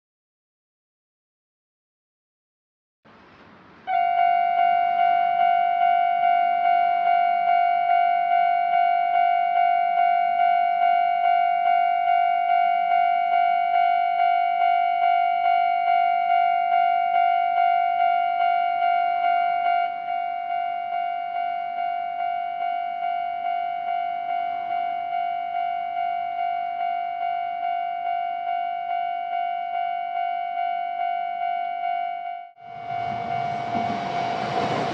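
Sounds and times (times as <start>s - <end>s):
level crossing warning bell: 3.9s - 34.9s.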